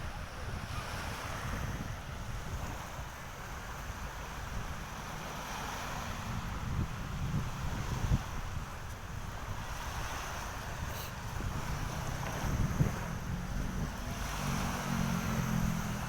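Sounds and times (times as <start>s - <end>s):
surf washing: 0.0s - 16.0s
wind buffeting microphone: 0.0s - 16.0s.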